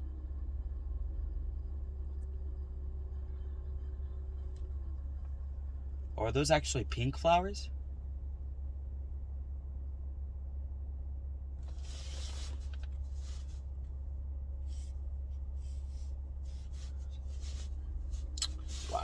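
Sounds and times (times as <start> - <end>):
car cabin hum: 0.0 - 19.0.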